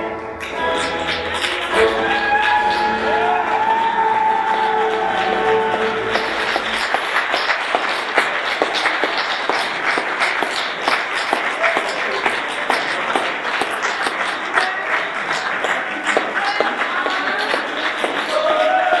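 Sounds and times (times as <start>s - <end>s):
audience applauding: 0.4s - 19.0s
voices over clapping: 1.3s - 19.0s.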